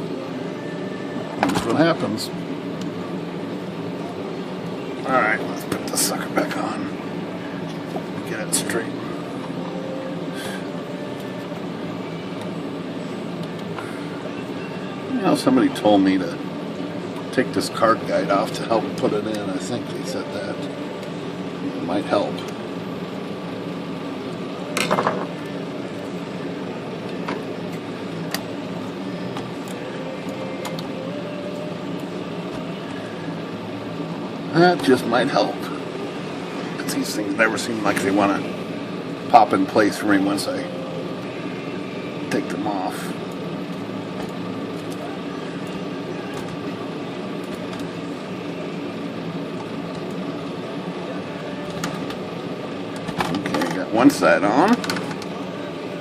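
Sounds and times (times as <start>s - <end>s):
room hum: 0.0s - 56.0s.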